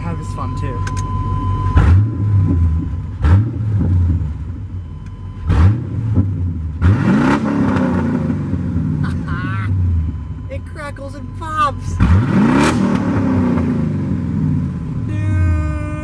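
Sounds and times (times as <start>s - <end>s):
truck engine accelerating: 0.0s - 4.8s, 5.4s - 16.0s.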